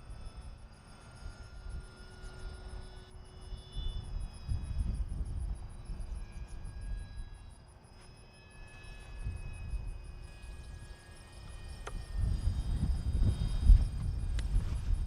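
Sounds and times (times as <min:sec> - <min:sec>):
wind rumbling on microphone: 0:00.0 - 0:07.7, 0:08.8 - 0:15.0
rc plane motor whine: 0:00.0 - 0:15.0.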